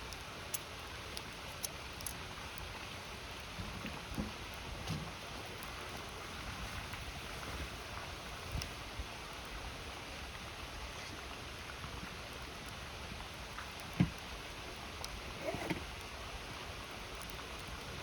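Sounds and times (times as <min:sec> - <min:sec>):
campfire crackling: 0:00.0 - 0:18.0
river water flowing: 0:00.0 - 0:18.0.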